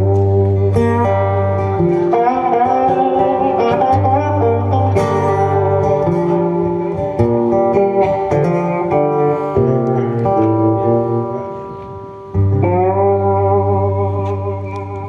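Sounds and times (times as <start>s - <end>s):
guitar chord ringing: 0.0s - 15.0s
live band playing guitar: 0.0s - 15.0s.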